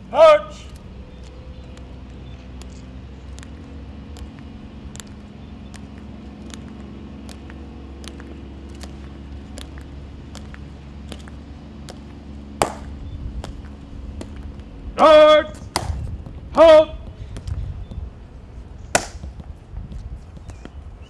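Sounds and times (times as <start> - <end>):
marching footsteps on stone: 0.0 - 21.0
steady low hum: 0.0 - 21.0.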